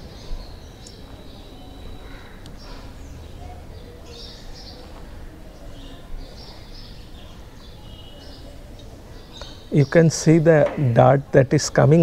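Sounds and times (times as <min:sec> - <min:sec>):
birds chirping: 0:00.0 - 0:12.0
low rumble of street noise: 0:00.0 - 0:12.0.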